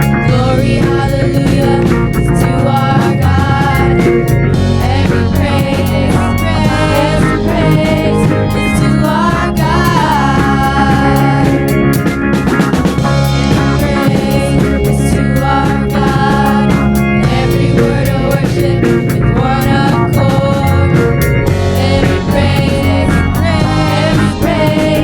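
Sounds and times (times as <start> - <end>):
drum kit beat: 0.0 - 25.0
gliding melody line: 0.0 - 25.0
rock band music: 0.0 - 25.0.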